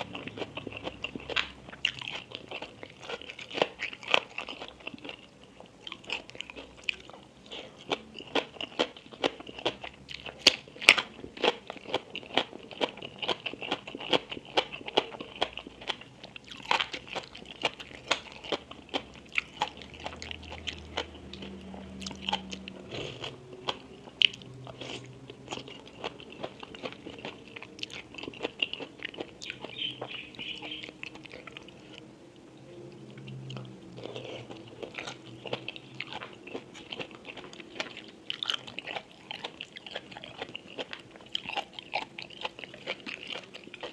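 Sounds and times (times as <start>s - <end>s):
crunching and chewing crisp food: 0.0s - 43.9s.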